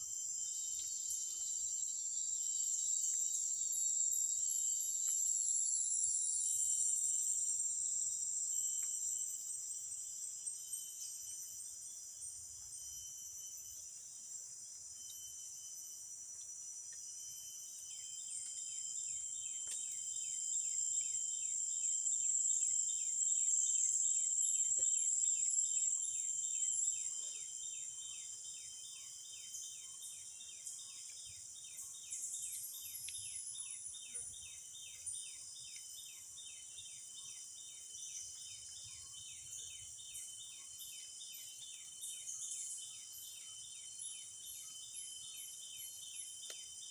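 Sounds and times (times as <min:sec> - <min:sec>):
cricket-like chirping: 0:00.0 - 0:46.9.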